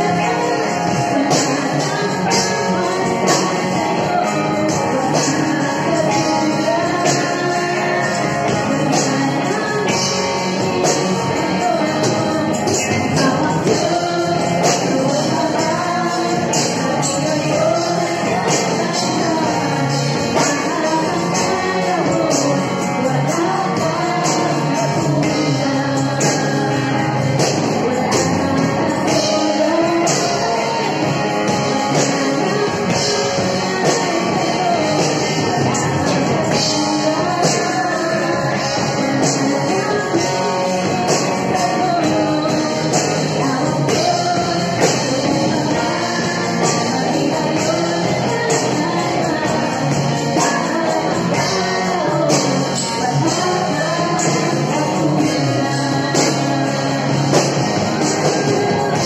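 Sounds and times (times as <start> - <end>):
electric guitars: 0.0 - 59.0
woman singing: 0.0 - 59.0.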